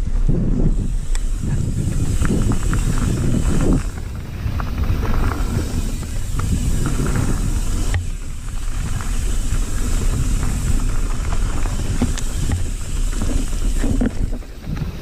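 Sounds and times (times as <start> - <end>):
bike clicks and rattles: 0.0 - 15.0
tyres rumbling on dirt: 0.0 - 15.0
wind on microphone: 0.0 - 15.0.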